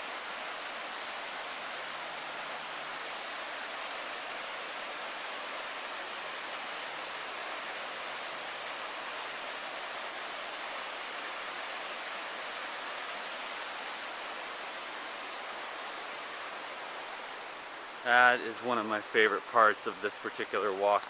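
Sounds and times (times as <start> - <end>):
river flowing: 0.0 - 21.0.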